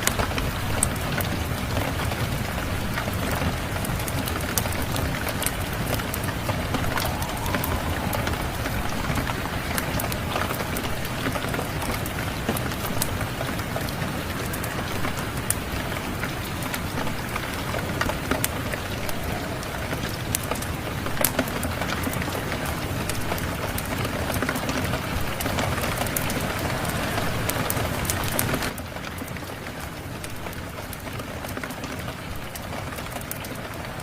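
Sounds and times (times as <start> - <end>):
crackling wood fire: 0.0 - 34.0
steady rain falling: 0.0 - 34.0.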